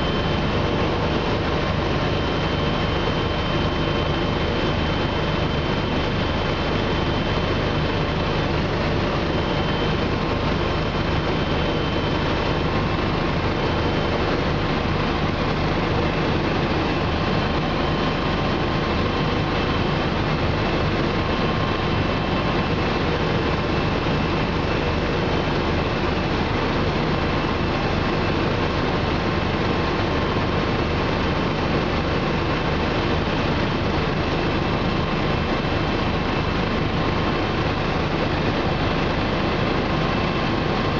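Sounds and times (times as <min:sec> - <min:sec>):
faint steady whine: 0:00.0 - 0:40.9
helicopter engine and rotor drone: 0:00.0 - 0:40.9.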